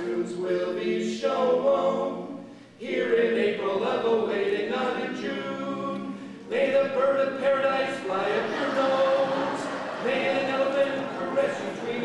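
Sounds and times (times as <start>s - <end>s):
vocal quartet singing a cappella: 0.0s - 12.0s.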